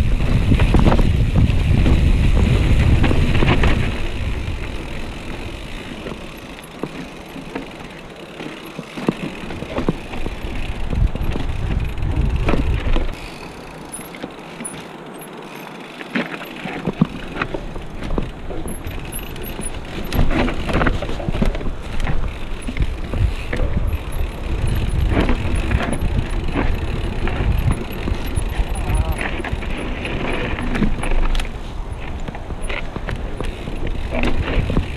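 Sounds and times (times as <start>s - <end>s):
bike clattering and rattling: 0.0s - 34.9s.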